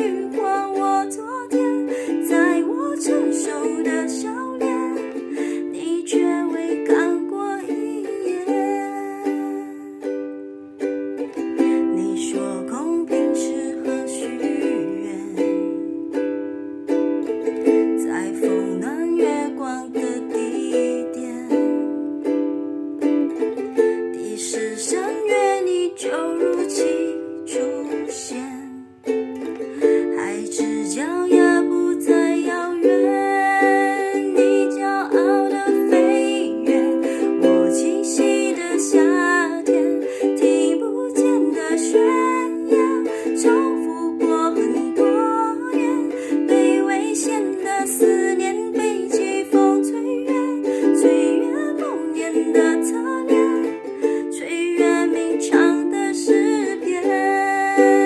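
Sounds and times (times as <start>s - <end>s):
ukulele playing: 0.0s - 58.0s.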